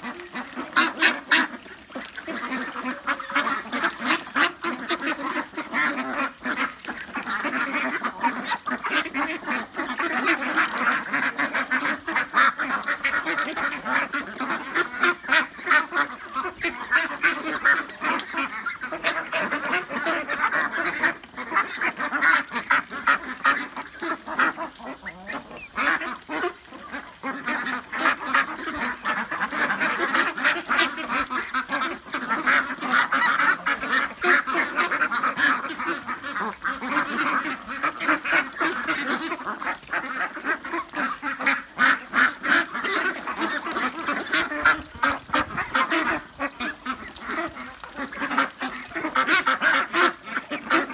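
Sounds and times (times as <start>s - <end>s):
ducks quacking: 0.0s - 50.9s.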